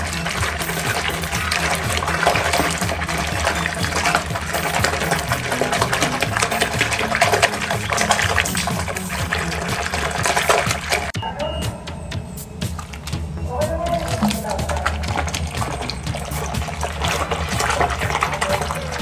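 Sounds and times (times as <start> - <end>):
soapy water sloshing and splashing: 0.0 - 11.2, 12.6 - 19.0.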